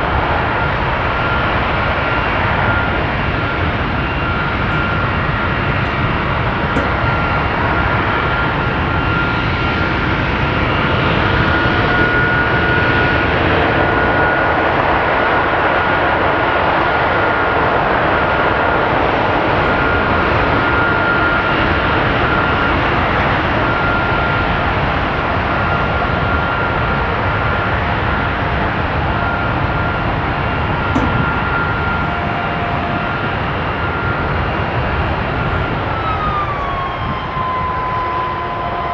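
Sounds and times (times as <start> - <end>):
jet engine running with whine: 0.0 - 38.9.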